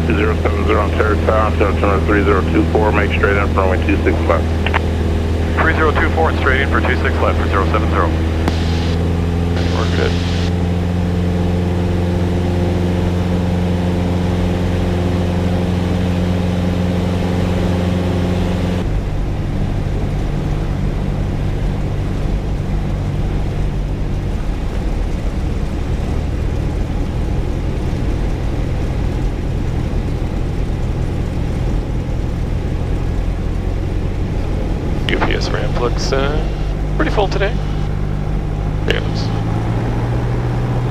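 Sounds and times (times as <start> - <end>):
airplane engine and propeller: 0.0 - 40.9.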